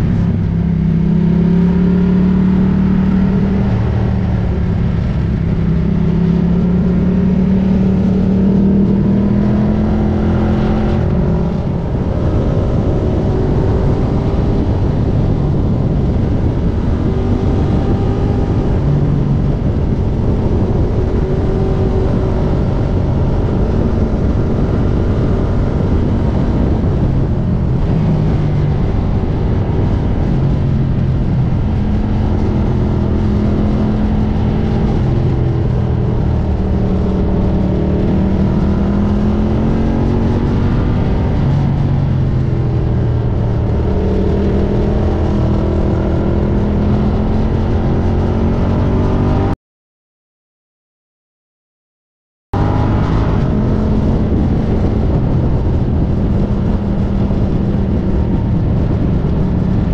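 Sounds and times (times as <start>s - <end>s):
dense rush of noise: 0.0s - 49.6s, 52.6s - 59.9s
motorcycle engine revving: 0.0s - 49.6s, 52.6s - 59.9s.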